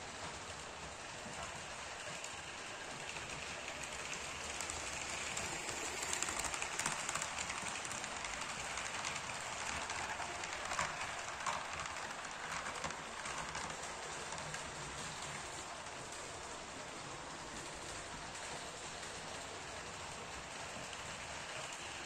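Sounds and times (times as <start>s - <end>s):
model train wheels rattling: 0.7s - 22.0s.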